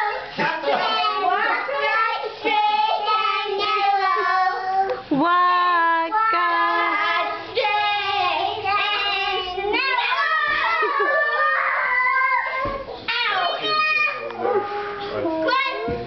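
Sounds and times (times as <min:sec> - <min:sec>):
children singing: 0:00.0 - 0:05.0, 0:06.2 - 0:14.4.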